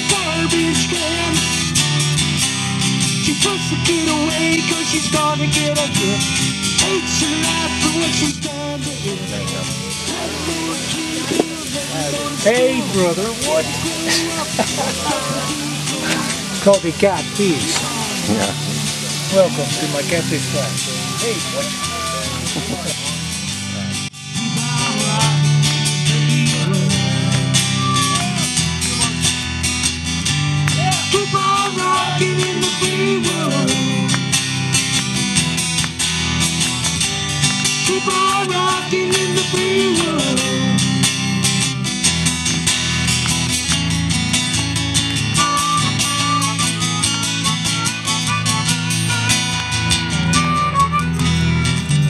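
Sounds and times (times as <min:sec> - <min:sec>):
live country-rock band: 0:00.0 - 0:52.0.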